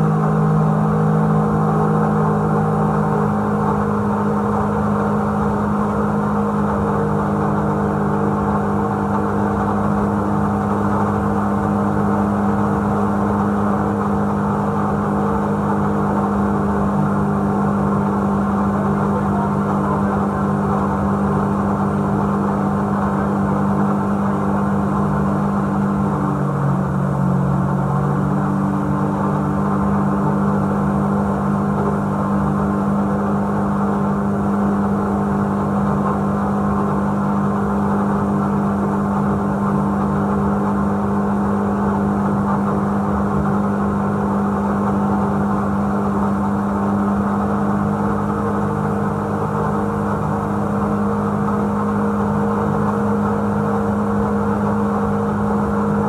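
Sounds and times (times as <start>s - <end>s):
jet boat engine running: 0.0s - 56.0s
water rushing along hull: 0.0s - 56.0s.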